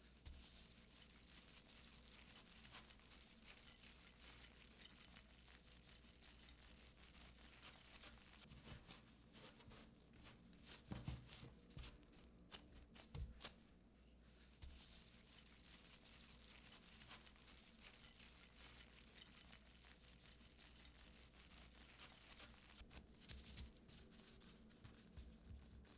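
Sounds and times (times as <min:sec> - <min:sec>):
faint rustling: 0:00.0 - 0:25.9
quiet steady hum: 0:00.0 - 0:25.9.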